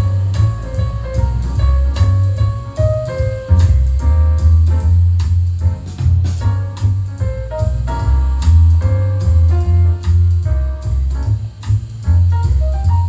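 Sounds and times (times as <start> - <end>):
drum kit: 0.0 - 13.0
heavy bass line: 0.0 - 13.0
piano: 0.0 - 13.0.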